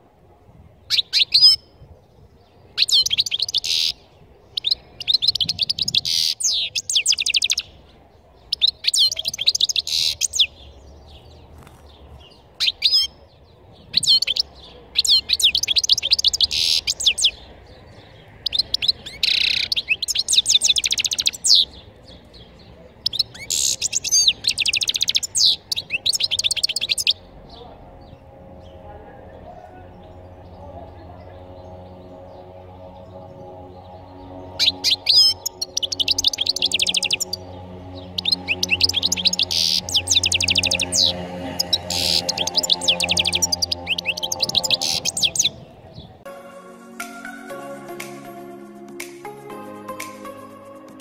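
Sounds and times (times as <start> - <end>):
bird twittering song: 0.8 - 28.9, 29.5 - 46.2.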